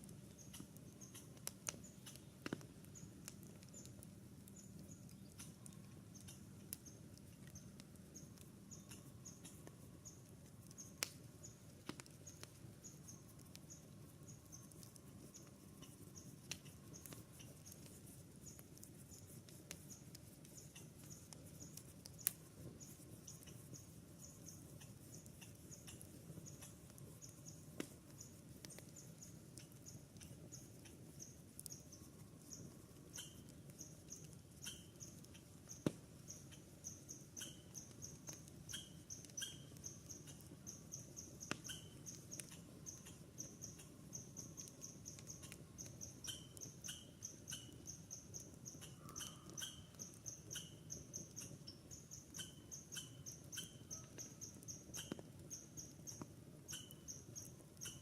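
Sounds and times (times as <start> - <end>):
campfire crackling: 0.0 - 58.0
fire popping: 0.0 - 58.0
small animal chirping: 0.3 - 58.0.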